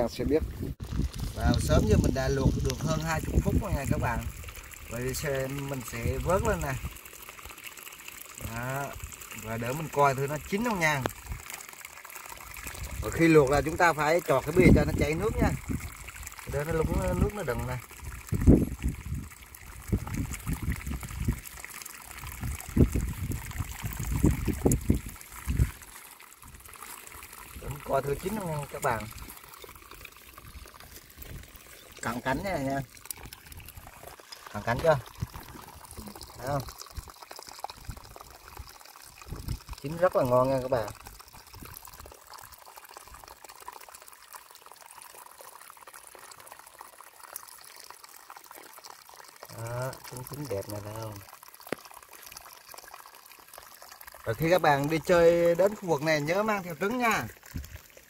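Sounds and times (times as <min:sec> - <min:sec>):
water trickling through rock channel: 0:00.0 - 0:58.0.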